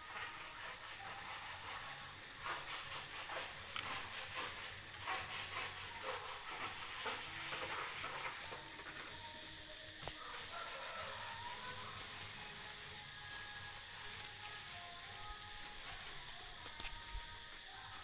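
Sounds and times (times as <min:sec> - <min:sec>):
leaves and stems rustling and crackling: 0:00.0 - 0:18.0.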